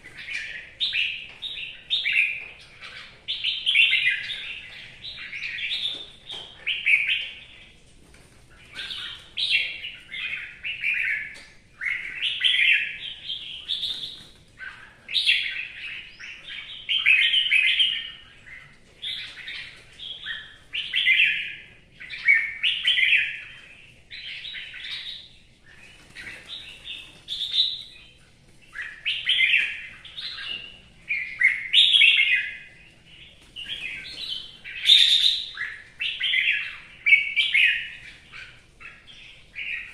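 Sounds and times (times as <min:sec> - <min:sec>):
bird singing warbled phrases: 0:00.0 - 0:07.8, 0:08.4 - 0:39.9.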